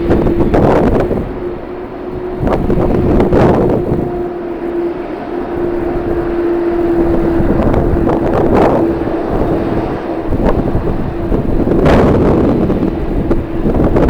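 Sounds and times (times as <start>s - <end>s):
steady low-pitched hum: 0.0s - 14.0s
wind buffeting the microphone: 0.0s - 14.0s.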